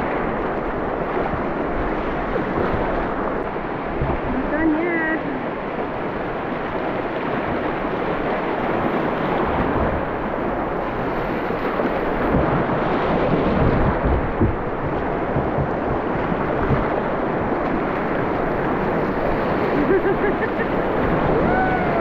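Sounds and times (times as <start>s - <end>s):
waves slapping against kayak: 0.0s - 22.0s
whitewater rushing: 0.0s - 22.0s.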